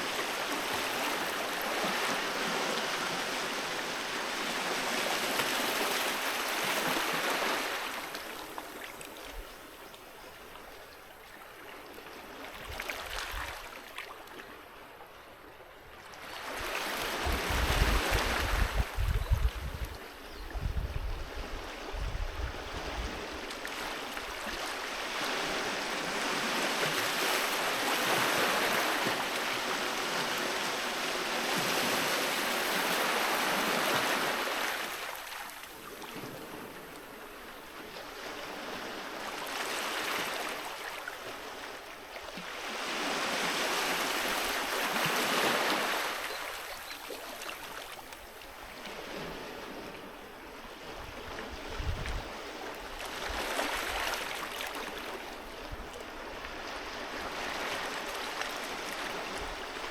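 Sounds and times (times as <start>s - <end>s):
sea waves breaking on beach: 0.0s - 9.3s, 16.0s - 19.0s, 22.5s - 59.9s.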